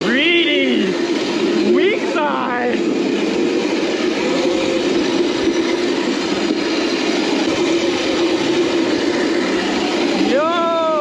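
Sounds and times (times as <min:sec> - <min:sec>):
constant rushing noise: 0:00.0 - 0:11.0
electric kart motor hum: 0:00.0 - 0:11.0.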